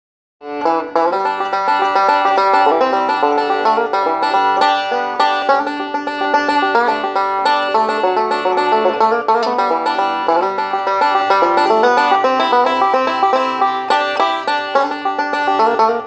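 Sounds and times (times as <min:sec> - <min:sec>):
banjo picking fast notes: 0:00.4 - 0:16.0.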